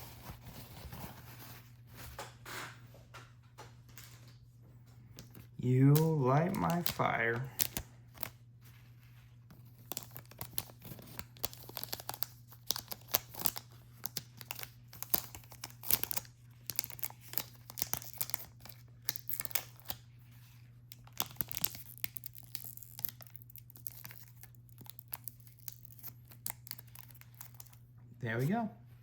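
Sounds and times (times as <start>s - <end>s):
plastic wrapping crinkling: 0.0s - 2.6s, 3.9s - 28.6s
faint steady hum: 0.0s - 29.0s.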